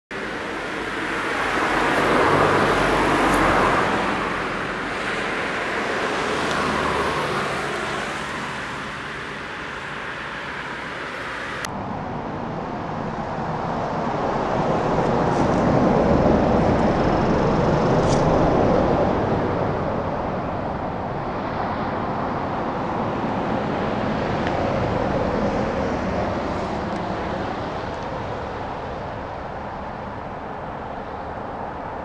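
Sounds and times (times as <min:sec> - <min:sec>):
steady rushing noise: 0:00.1 - 0:32.0.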